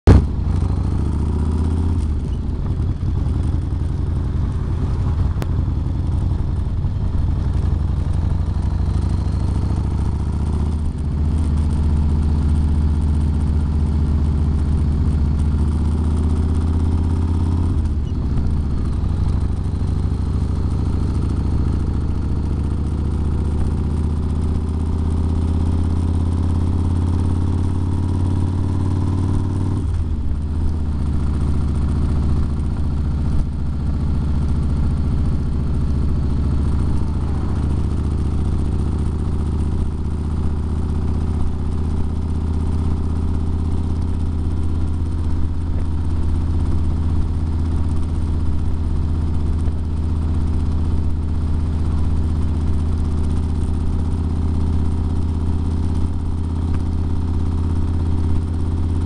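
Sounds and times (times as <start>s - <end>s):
car engine and road noise in cabin: 0.0s - 59.0s.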